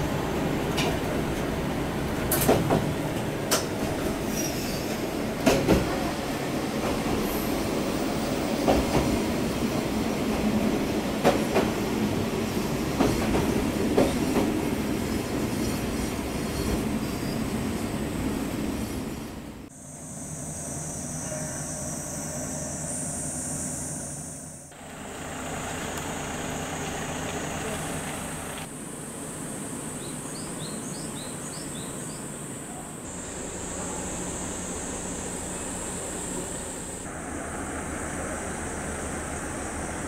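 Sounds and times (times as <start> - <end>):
railcar running rumble: 0.0 - 40.0.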